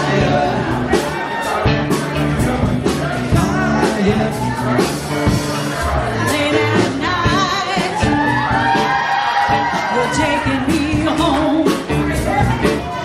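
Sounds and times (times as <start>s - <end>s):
person singing: 0.0s - 8.9s, 9.5s - 13.0s
drum kit steady beat: 0.0s - 13.0s
electric guitars: 0.0s - 13.0s.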